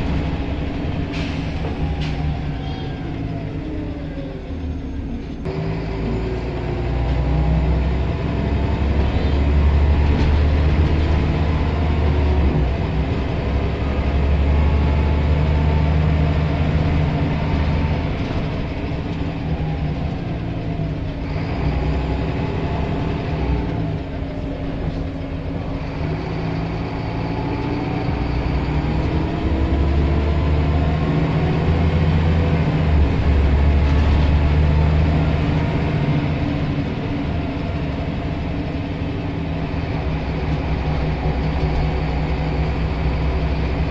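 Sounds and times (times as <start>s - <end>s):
bus diesel engine running: 0.0s - 43.9s
road noise: 0.0s - 43.9s.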